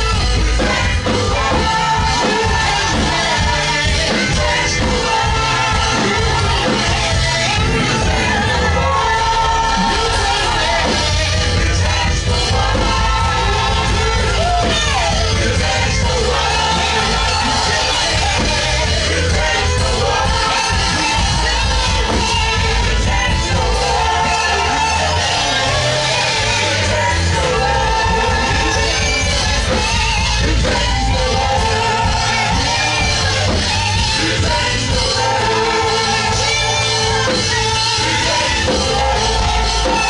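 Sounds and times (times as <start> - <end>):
people singing: 0.0 - 40.0
worship band music: 0.0 - 40.0.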